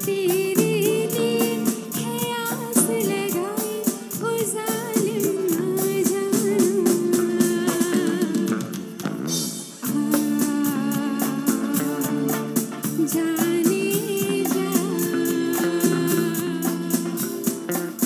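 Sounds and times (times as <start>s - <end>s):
woman singing: 0.0s - 9.0s, 9.8s - 18.0s
live band music: 0.0s - 18.0s.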